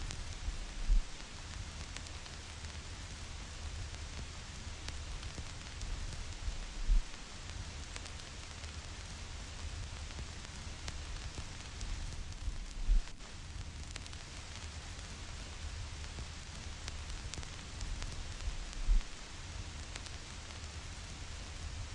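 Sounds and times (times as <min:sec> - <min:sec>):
vinyl record hiss and crackle: 0:00.0 - 0:21.9.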